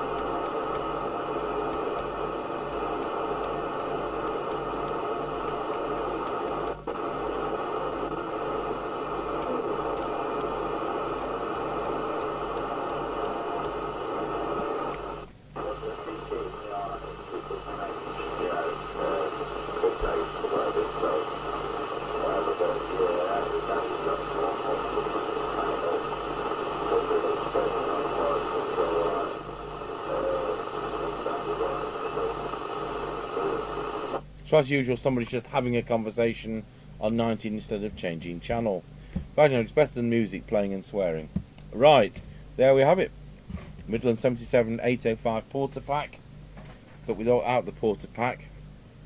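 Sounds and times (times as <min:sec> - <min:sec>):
radio static hiss: 0:00.0 - 0:48.6.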